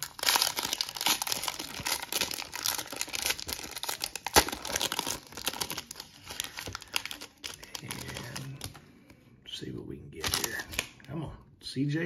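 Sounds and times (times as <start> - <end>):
plastic wrapper crinkling and tearing: 0.0 - 8.8, 10.2 - 11.2.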